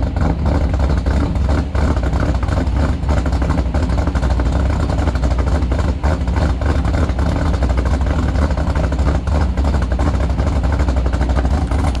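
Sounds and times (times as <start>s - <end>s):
engine idling with deep rumble: 0.0s - 12.0s.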